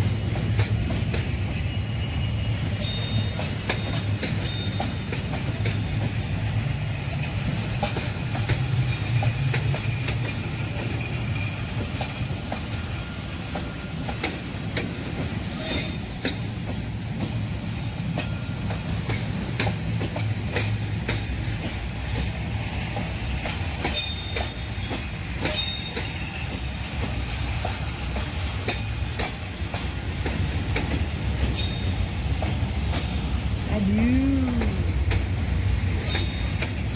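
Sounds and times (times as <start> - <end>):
train wheels clicking over rail joints: 0.0 - 33.7, 34.5 - 36.9
train low rumble: 0.0 - 36.9.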